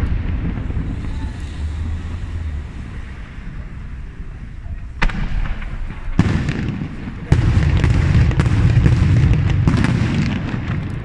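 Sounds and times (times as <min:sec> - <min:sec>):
fireworks bursting with crackle: 0:00.0 - 0:11.0.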